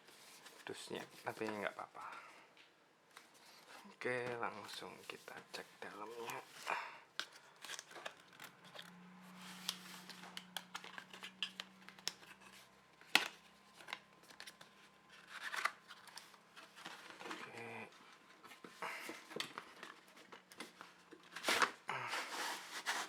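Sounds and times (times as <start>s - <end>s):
cardboard rustling: 3.2s - 23.0s.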